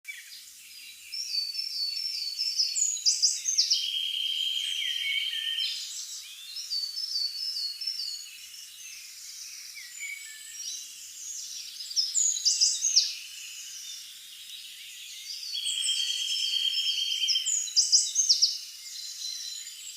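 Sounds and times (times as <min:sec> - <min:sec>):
songbirds singing: 0:00.0 - 0:19.9
bird trill: 0:01.2 - 0:14.2, 0:15.0 - 0:19.9.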